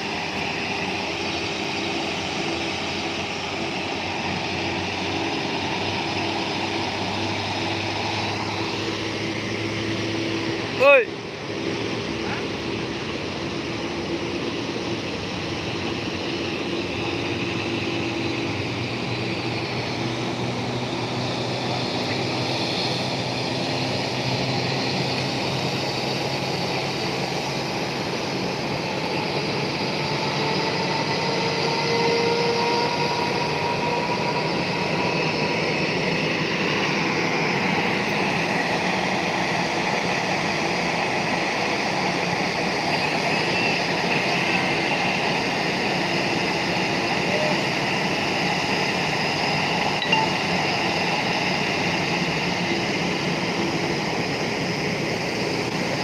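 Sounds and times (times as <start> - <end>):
ground vehicles running: 0.0 - 56.0
jet engines whining: 0.0 - 56.0.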